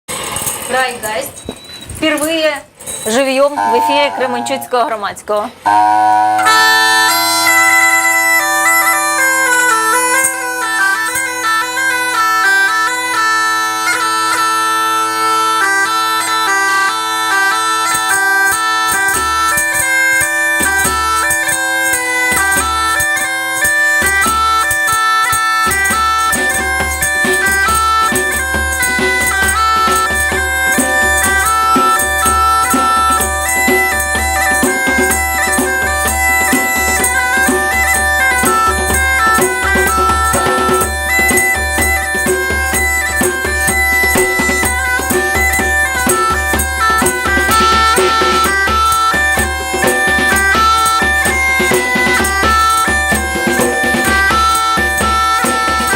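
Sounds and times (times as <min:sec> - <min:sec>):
hurdy-gurdy: 0:02.8 - 0:55.9
bagpipe melody over drone: 0:03.5 - 0:05.0, 0:05.6 - 0:55.9.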